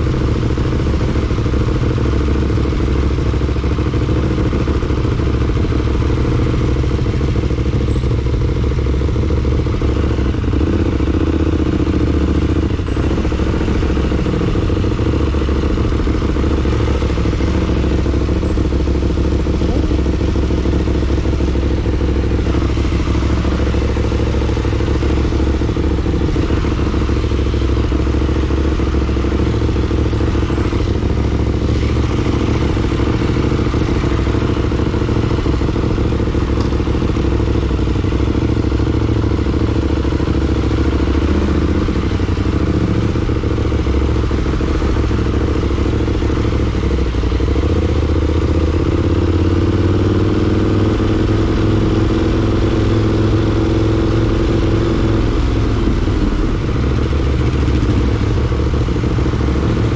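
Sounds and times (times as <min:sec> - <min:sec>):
motorcycle engine running at low revs: 0:00.0 - 0:59.9.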